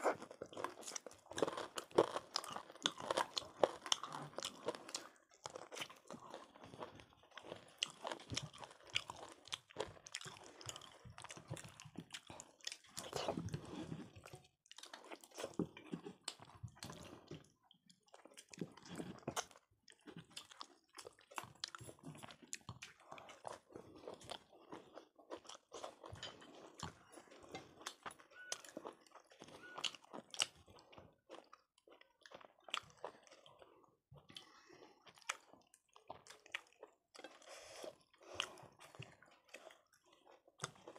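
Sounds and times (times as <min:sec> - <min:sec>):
chewing and biting food: 0:00.0 - 0:40.9.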